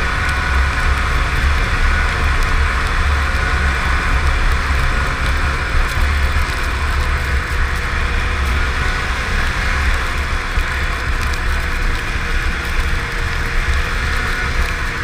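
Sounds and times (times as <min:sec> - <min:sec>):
snowmobile engine and track noise: 0:00.0 - 0:15.0.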